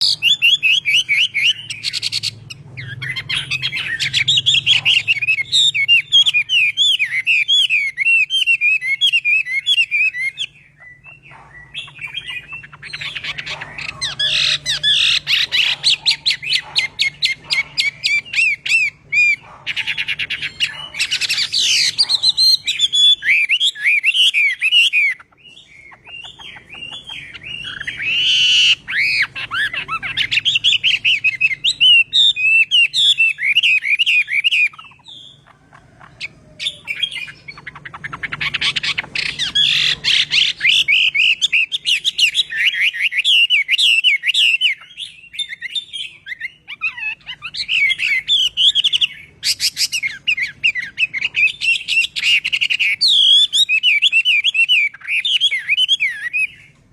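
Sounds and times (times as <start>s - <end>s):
bird singing whistled song: 0.0s - 56.8s.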